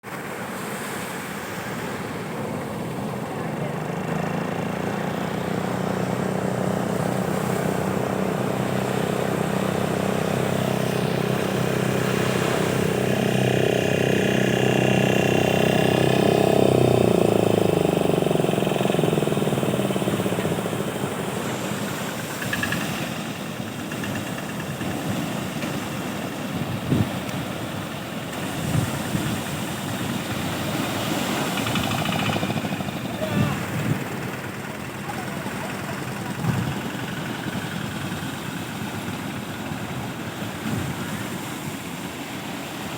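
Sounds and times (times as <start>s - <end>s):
engine passing by: 0.1s - 42.9s.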